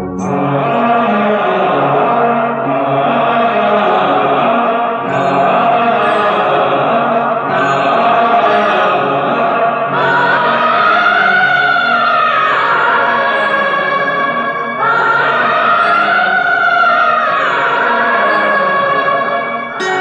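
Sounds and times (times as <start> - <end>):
song with long held notes: 0.0 - 20.0.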